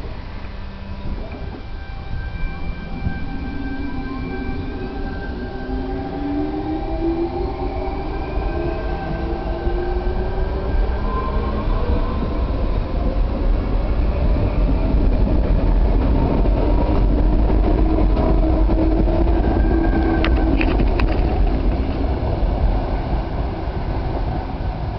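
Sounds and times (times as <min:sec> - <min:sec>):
train rumbling: 0:00.0 - 0:24.9
traction motor whine: 0:00.1 - 0:22.7.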